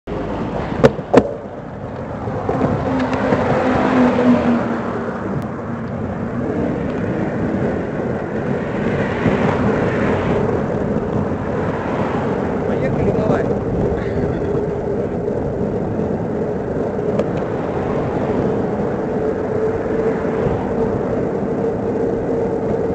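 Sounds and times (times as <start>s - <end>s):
bicycle tyre and road noise: 0.0s - 22.9s
wind rushing over microphone: 0.1s - 22.9s.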